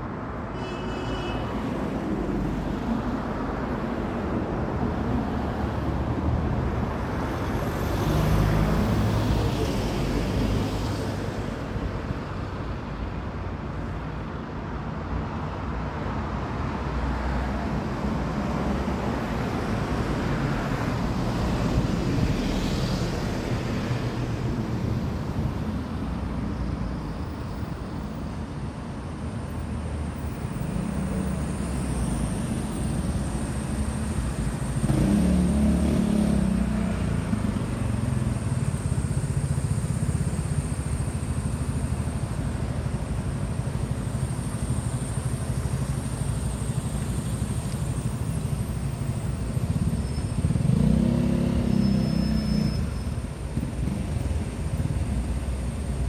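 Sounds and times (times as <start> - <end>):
passing cars rumbling: 1.4 - 56.0.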